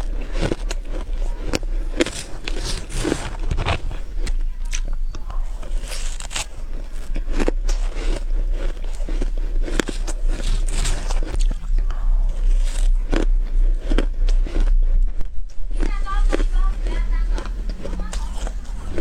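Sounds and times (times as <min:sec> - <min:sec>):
crunching frozen ice: 0:00.0 - 0:14.9, 0:15.7 - 0:19.0
low steady hum: 0:00.0 - 0:19.0.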